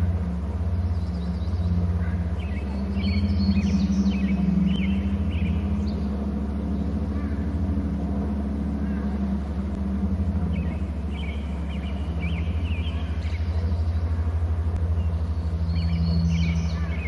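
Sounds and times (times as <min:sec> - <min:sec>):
low hum and rumble: 0:00.0 - 0:17.0
high chirping bird calls: 0:00.4 - 0:08.2, 0:10.4 - 0:17.0.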